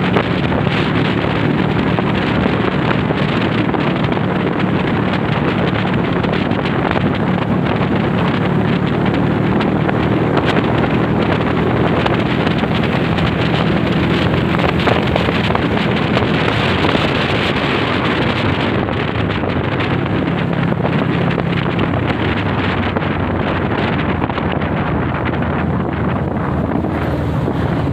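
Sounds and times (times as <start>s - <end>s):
motorcycle engine running: 0.0s - 27.9s
wind noise on microphone: 0.0s - 27.9s.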